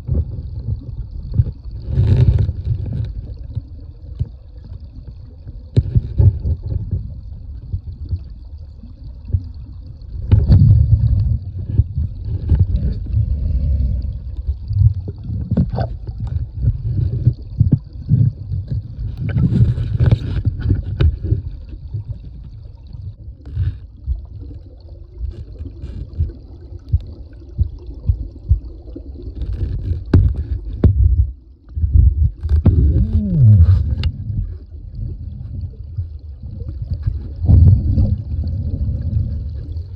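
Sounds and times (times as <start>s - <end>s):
creek water sloshing and gurgling: 0.0s - 39.9s.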